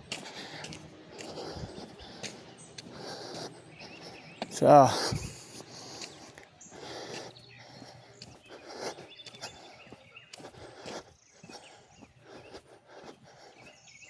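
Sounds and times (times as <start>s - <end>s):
faint footsteps walking: 0.0s - 14.0s
quiet outdoor ambience: 0.0s - 14.0s.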